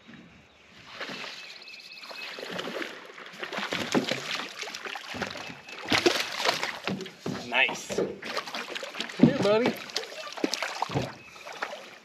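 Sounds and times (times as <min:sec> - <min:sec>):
fish splashing at water surface: 0:02.0 - 0:12.0.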